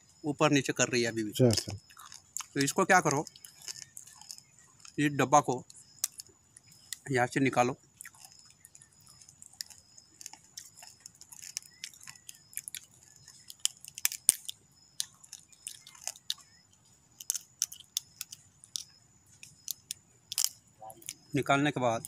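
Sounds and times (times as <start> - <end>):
crab shell cracking: 1.5 - 5.0, 5.6 - 7.1, 8.0 - 21.3.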